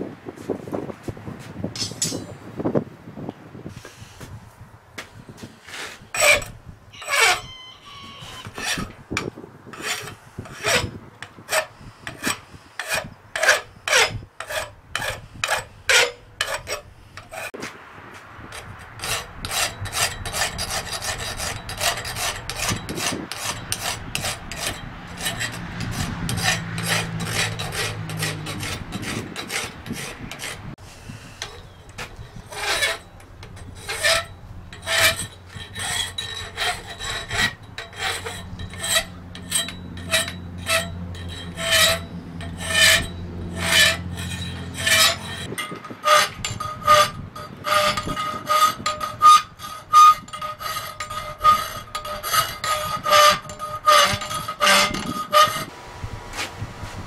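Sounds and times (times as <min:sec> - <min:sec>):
hand file rasping on steel: 0:05.7 - 0:09.0, 0:09.7 - 0:17.6, 0:18.5 - 0:30.8, 0:31.4 - 0:55.7.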